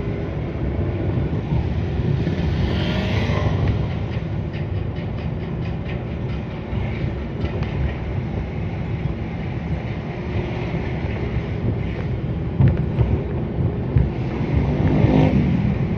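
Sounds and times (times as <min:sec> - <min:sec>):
van engine and road rumble: 0:00.0 - 0:15.9.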